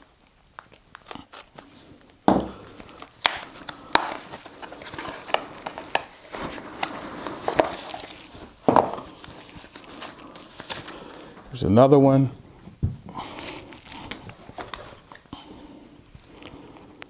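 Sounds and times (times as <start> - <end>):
cardboard and packaging rustling: 0.6 - 11.6, 12.7 - 17.0.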